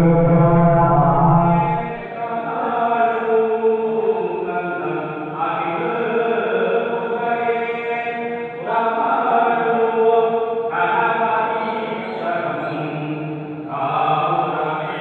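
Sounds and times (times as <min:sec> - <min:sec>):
mantra chanting in long notes: 0:00.0 - 0:15.0.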